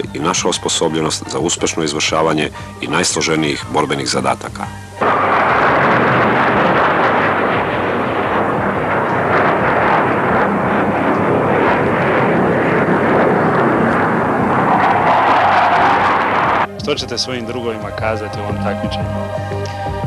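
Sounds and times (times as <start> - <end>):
jet aircraft engine noise: 2.5 - 19.5.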